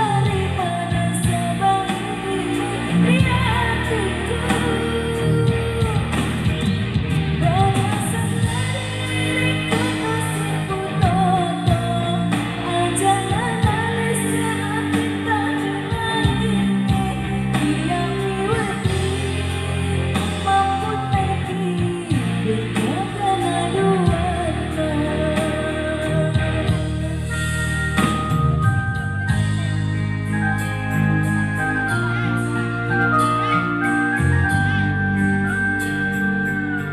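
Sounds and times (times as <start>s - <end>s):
instrumental backing: 0.0s - 36.9s.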